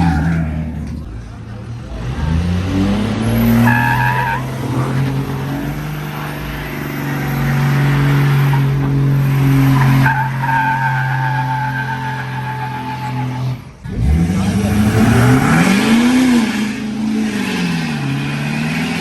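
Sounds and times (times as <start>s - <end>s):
engine at high revs: 0.0s - 10.4s, 12.2s - 19.0s
tyres squealing: 2.5s - 19.0s.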